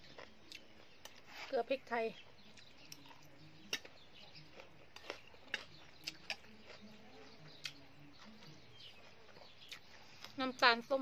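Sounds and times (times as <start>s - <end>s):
person chewing crunchy food: 0.0s - 1.5s, 2.2s - 10.4s.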